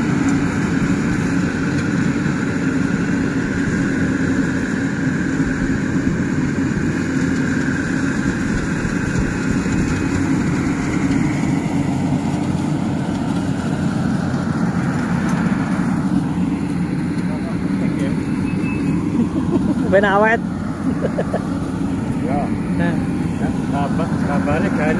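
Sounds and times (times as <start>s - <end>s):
combine harvester droning: 0.0s - 24.9s.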